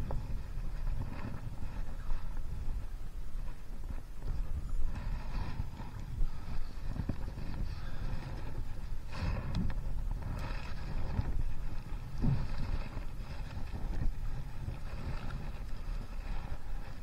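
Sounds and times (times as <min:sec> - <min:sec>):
paddle strokes splashing: 0:00.0 - 0:17.0
wind on microphone: 0:00.0 - 0:17.0.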